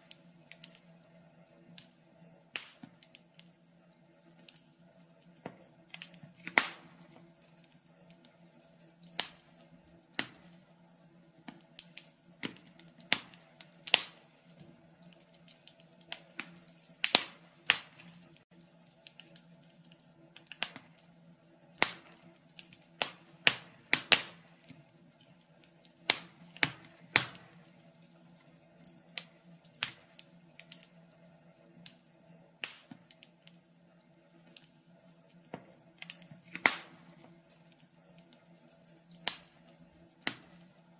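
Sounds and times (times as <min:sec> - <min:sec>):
burning logs crackling: 0:00.0 - 0:40.9.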